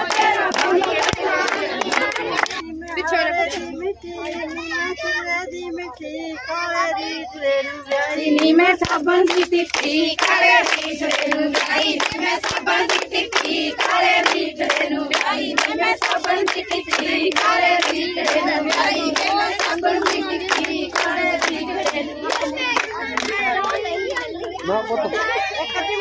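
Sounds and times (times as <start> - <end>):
rhythmic hand clapping: 0.0 - 4.7, 7.8 - 26.0
women singing together: 0.0 - 26.0.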